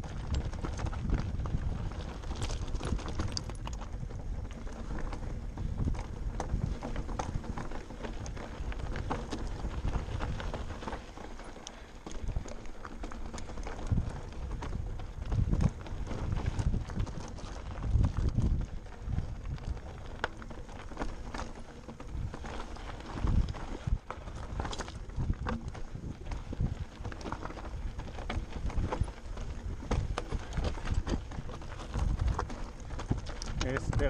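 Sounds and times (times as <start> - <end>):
bike clicks and rattles: 0.0 - 34.0
tyres crunching over stones: 0.0 - 34.0.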